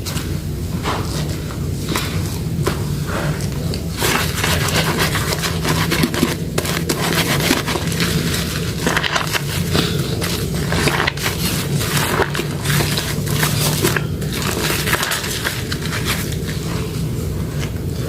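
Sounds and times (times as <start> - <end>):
soft soap crackling and scraping: 0.0 - 18.0.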